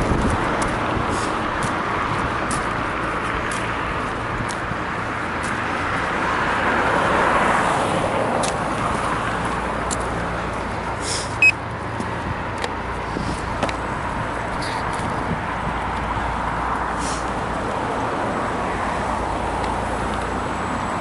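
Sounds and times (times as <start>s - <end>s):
street traffic noise: 0.0s - 21.0s
vehicle passing: 0.0s - 21.0s.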